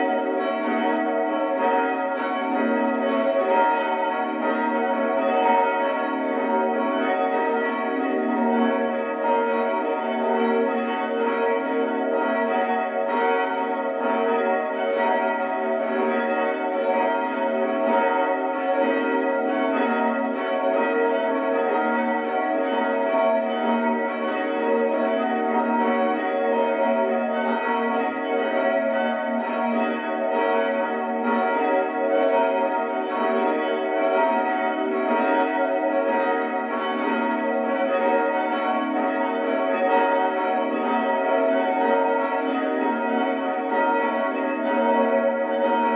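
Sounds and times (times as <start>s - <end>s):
church bells pealing: 0.0s - 45.9s.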